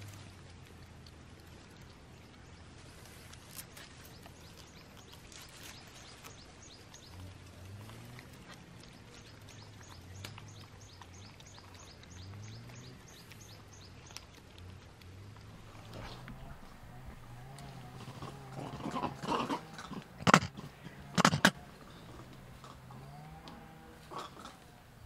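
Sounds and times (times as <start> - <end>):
faint low hum: 0.0 - 25.0
bird chirping: 1.6 - 7.4, 8.8 - 14.4, 15.4 - 25.0.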